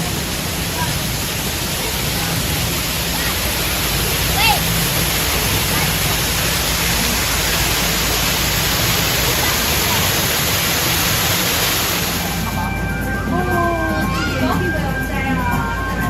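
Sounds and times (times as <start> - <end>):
loud rushing noise: 0.0 - 14.5.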